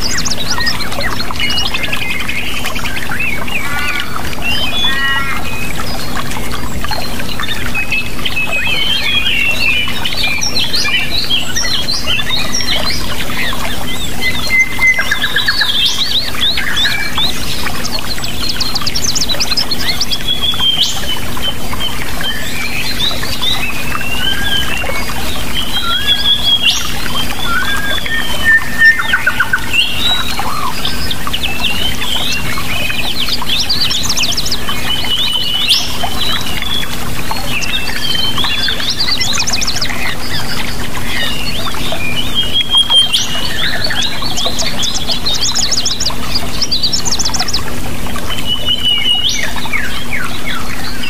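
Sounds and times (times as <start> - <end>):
low steady hum: 0.0 - 51.0
rushing water: 0.0 - 51.0
songbirds chirping and trilling: 0.0 - 51.0.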